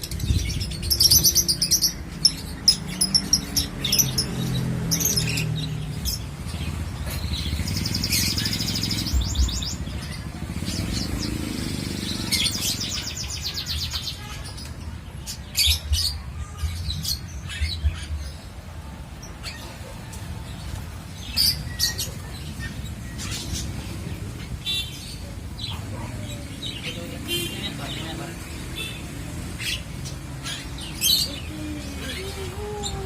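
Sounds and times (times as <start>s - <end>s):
caged birds chirping: 0.0s - 33.0s.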